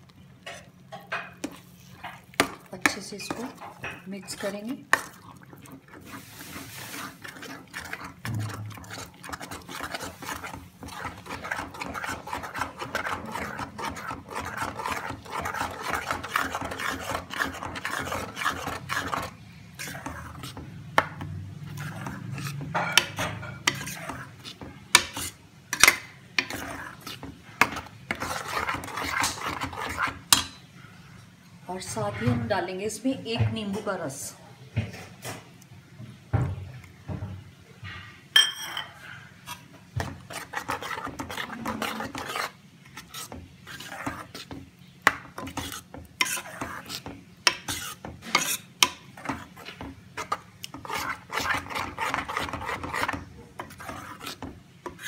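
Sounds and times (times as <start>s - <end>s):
spoon scraping a pan: 0.4s - 30.7s, 37.8s - 55.0s.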